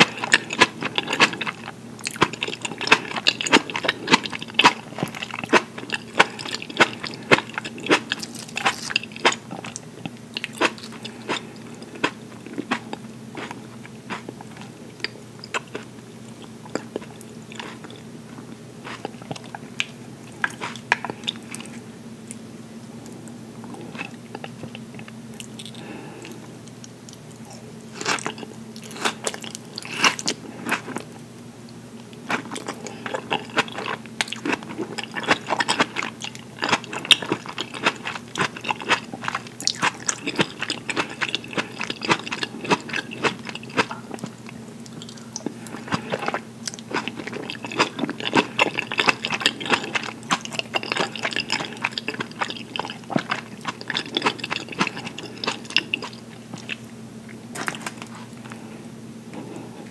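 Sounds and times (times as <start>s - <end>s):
wet chewing mouth sounds: 0.0s - 22.4s, 23.0s - 31.1s, 32.2s - 58.6s.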